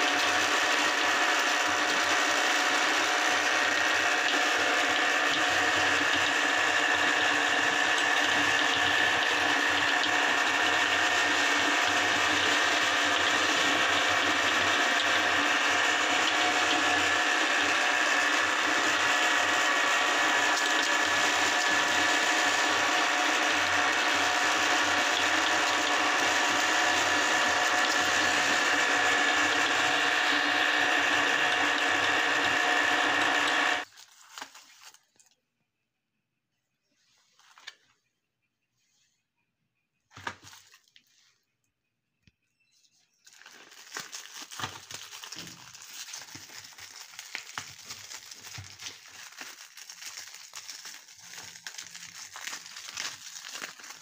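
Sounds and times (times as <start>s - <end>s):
meat grinder grinding and crunching: 0.0s - 34.6s, 43.1s - 54.0s.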